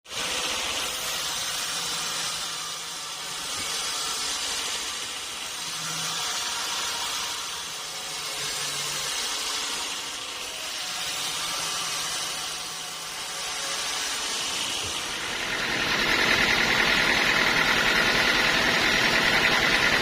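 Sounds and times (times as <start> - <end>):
band sawmill running: 0.1 - 20.0.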